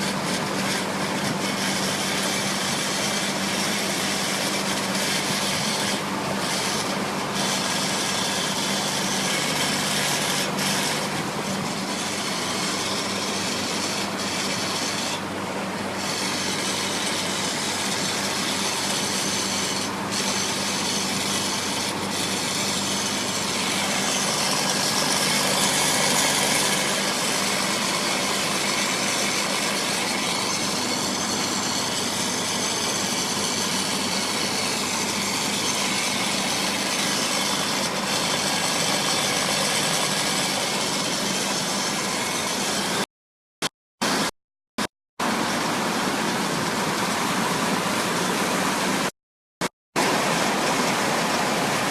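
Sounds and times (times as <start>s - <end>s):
truck running noise: 0.0s - 43.1s, 44.0s - 51.9s.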